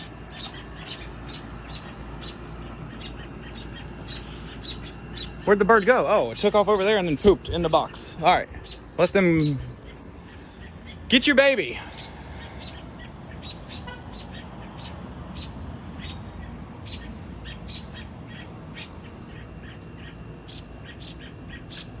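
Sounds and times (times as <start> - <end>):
low steady rumble: 0.0 - 22.0
small songbirds chirping: 0.0 - 22.0.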